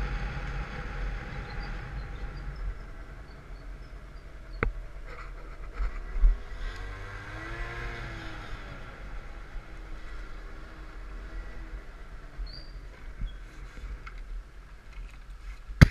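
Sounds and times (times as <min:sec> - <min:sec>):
wind rumble on microphone: 0:00.0 - 0:15.9.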